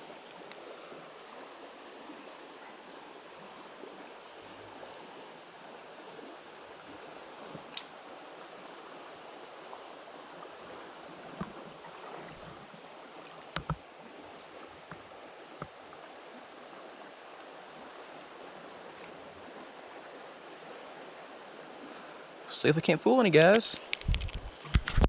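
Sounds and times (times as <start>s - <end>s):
creek water running: 0.0s - 25.0s.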